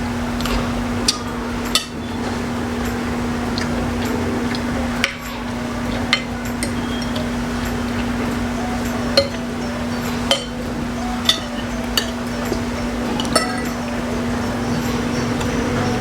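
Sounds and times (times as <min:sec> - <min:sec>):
utensils clinking on dishes: 0:00.3 - 0:16.0.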